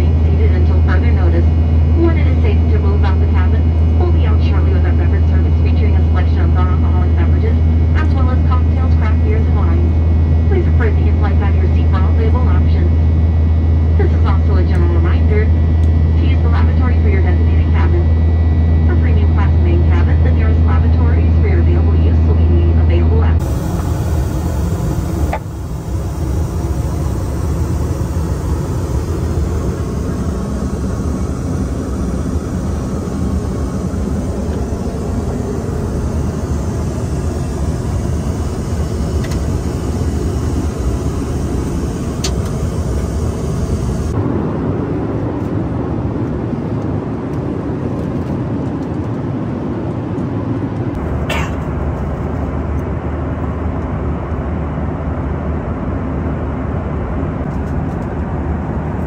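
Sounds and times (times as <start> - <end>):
airliner cabin engine noise: 0.0 - 59.0.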